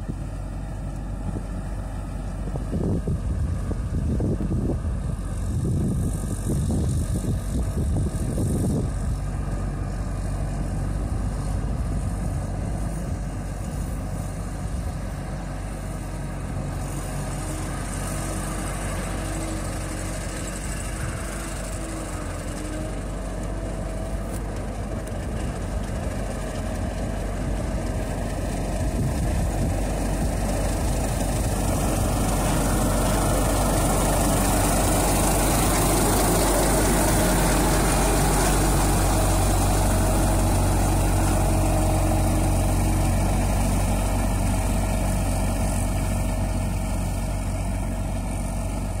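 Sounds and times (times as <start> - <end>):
diesel harvester running: 0.0 - 49.0.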